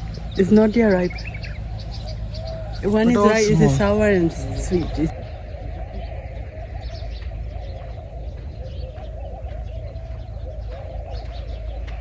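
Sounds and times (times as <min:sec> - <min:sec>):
doves cooing: 0:00.0 - 0:12.0
small birds chirping: 0:00.0 - 0:12.0.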